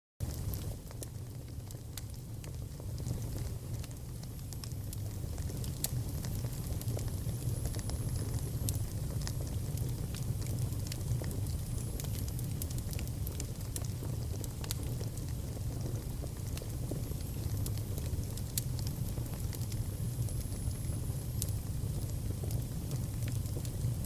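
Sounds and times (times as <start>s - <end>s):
fire crackling in a fireplace: 0.2s - 24.0s.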